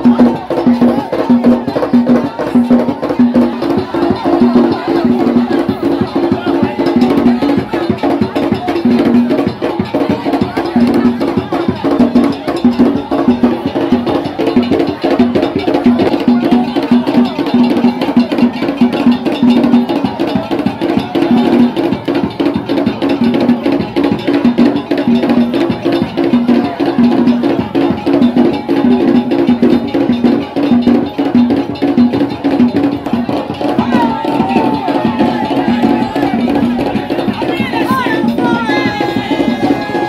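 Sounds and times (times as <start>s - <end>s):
drums and hand percussion: 0.0s - 40.0s.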